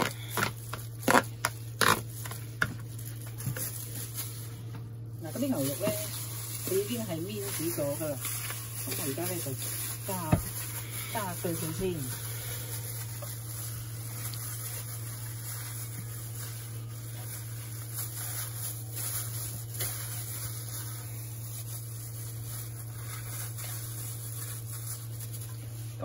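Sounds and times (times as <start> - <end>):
plastic glove rustling: 0.0 - 26.0
squishing of meat kneaded: 0.0 - 26.0
steady low hum: 0.0 - 26.0.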